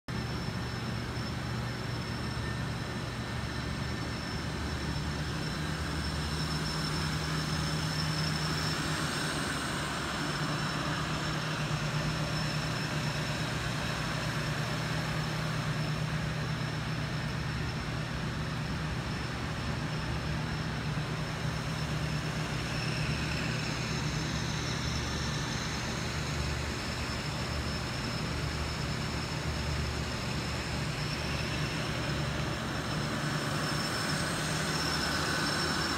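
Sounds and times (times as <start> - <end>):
faint high-pitched whine: 0.1 - 35.9
mechanical drone: 0.1 - 35.9.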